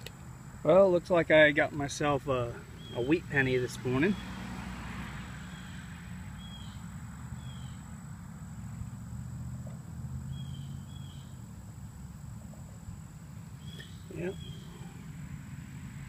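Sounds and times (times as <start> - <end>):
distant bird chirps: 1.7 - 4.6, 5.3 - 16.0.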